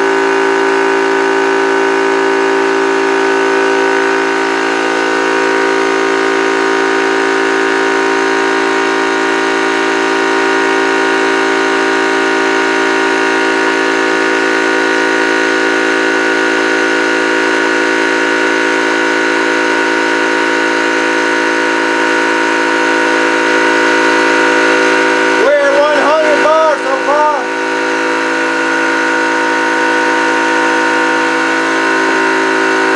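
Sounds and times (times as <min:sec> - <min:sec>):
air compressor droning: 0:00.0 - 0:32.9.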